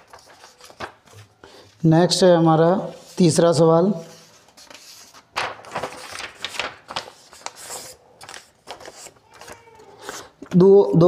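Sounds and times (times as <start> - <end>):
paper sheets rustling and scraping: 0.0 - 10.6.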